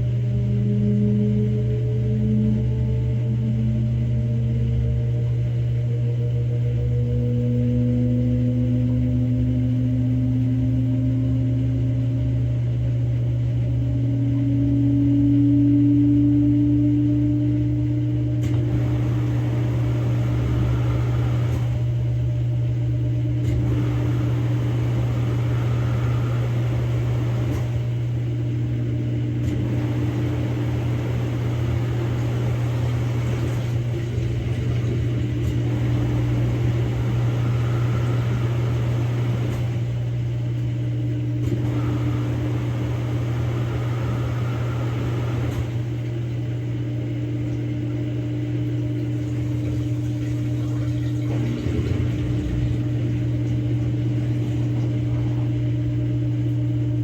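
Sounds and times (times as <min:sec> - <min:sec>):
washing machine drum spinning: 0:00.0 - 0:57.0.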